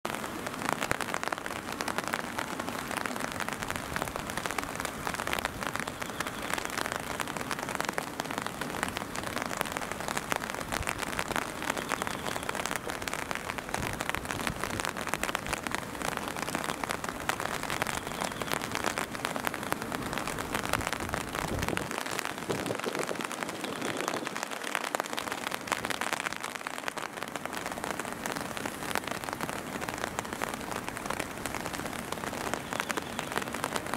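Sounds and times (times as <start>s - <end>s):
steady rain pattering: 0.0s - 33.9s.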